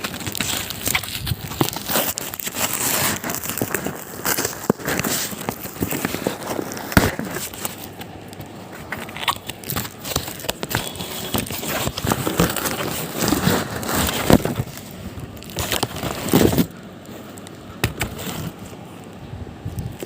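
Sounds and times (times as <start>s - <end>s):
packaging crinkling and tearing: 0.0s - 19.2s.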